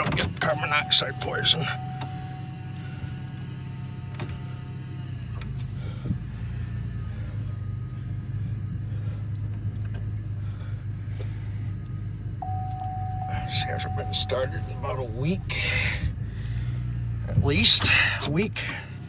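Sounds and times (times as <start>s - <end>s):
car engine idling: 0.0s - 19.0s
faint engine whine: 0.0s - 19.0s.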